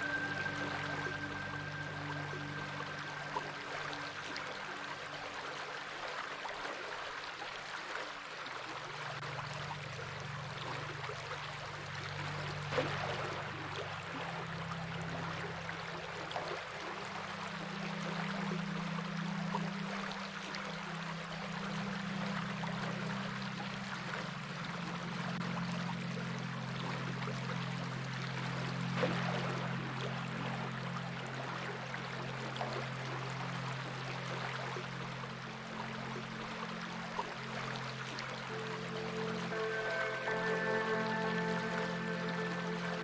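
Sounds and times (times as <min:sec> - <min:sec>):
low held notes: 0:00.0 - 0:06.2, 0:09.2 - 0:43.0
stream water flowing: 0:00.0 - 0:43.0.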